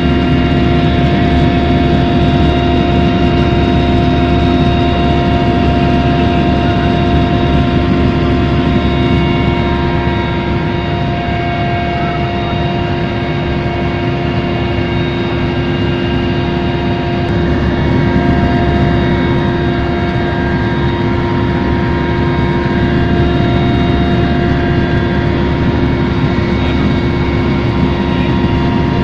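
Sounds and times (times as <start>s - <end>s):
helicopter engine and rotor drone: 0.0s - 29.0s
steady whining tones: 0.0s - 29.0s.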